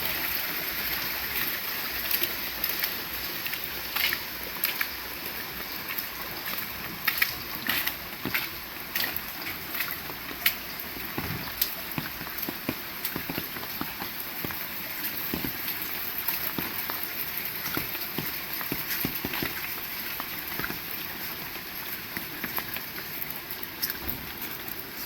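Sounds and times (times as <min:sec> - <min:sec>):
heavy rain pattering: 0:00.0 - 0:25.0.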